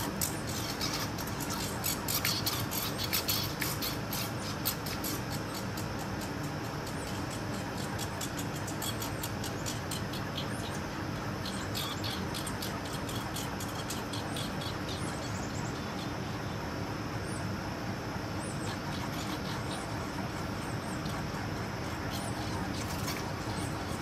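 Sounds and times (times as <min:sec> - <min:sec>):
squirrels chirping and ticking: 0:00.0 - 0:17.5, 0:18.2 - 0:24.0.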